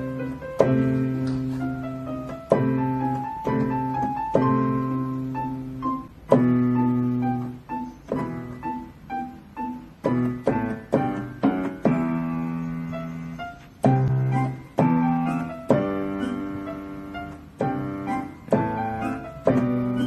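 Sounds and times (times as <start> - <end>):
solo piano music: 0.0 - 20.0.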